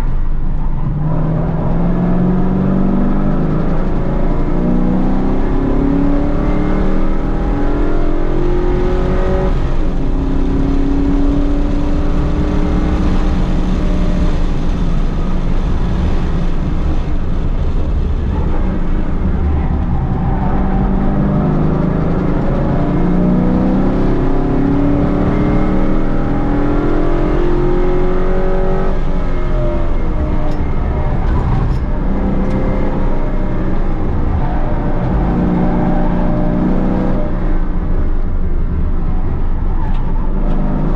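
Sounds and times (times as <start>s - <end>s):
car engine accelerating hard: 0.9s - 40.9s.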